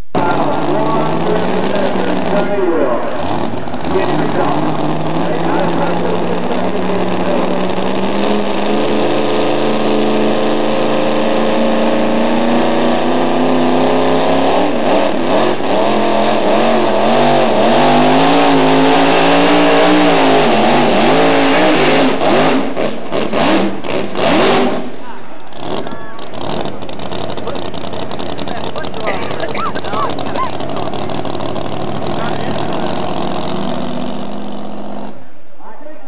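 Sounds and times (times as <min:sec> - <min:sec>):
truck engine at full throttle: 0:00.0 - 0:35.5.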